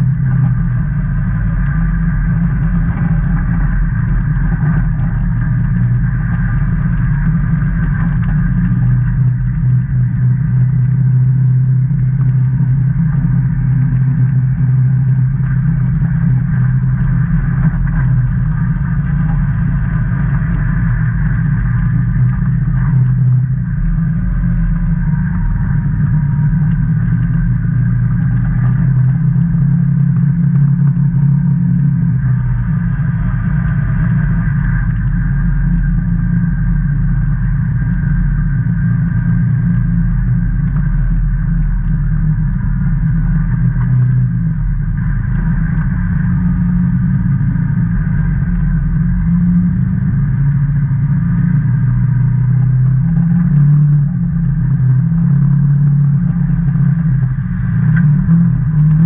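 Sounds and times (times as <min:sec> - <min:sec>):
side-by-side engine running: 0:00.0 - 0:59.0.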